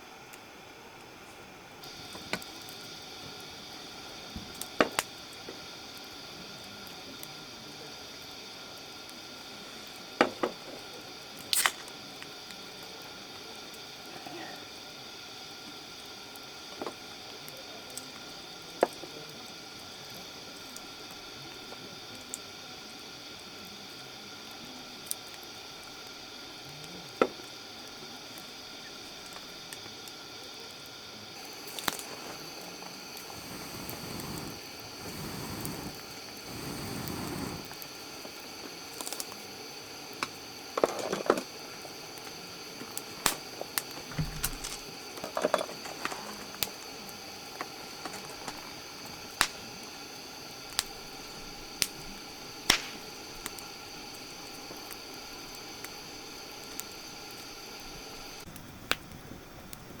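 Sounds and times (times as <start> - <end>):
campfire crackling: 0.0 - 60.0.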